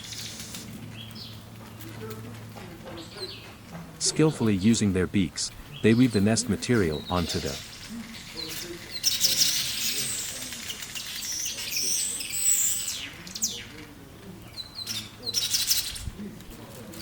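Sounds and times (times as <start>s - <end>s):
birds chattering: 0.0s - 17.0s.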